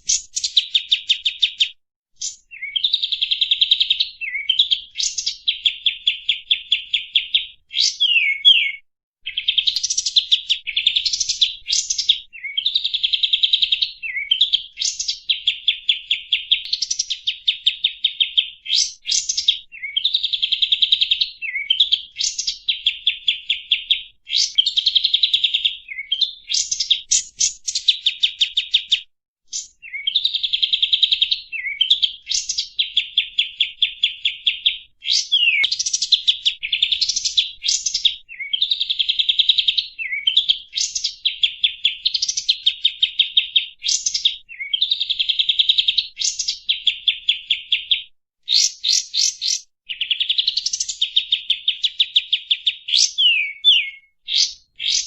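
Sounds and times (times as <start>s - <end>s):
bird song with fast trills: 0.0s - 55.0s.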